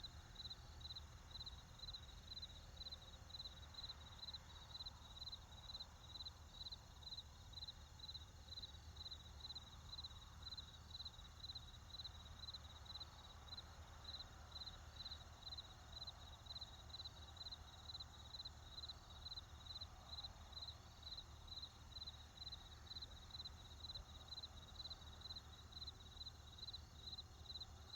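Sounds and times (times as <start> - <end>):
cricket chirping: 0.0 - 27.9.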